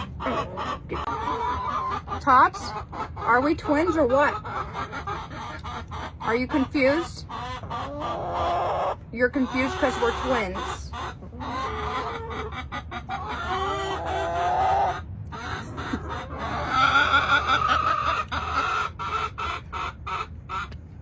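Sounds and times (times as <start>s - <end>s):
hens clucking and calling: 0.0s - 21.0s.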